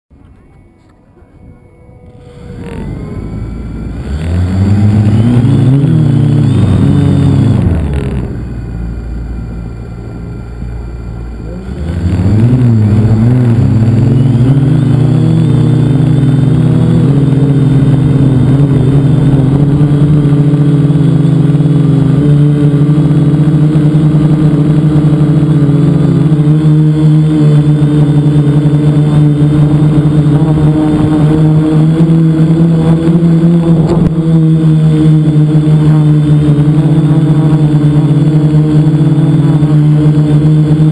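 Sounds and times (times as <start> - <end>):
drone motors buzzing: 0.2 - 40.9.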